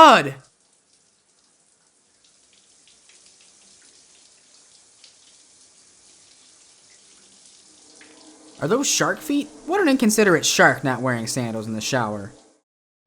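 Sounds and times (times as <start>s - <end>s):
shower spraying water: 0.0s - 12.6s.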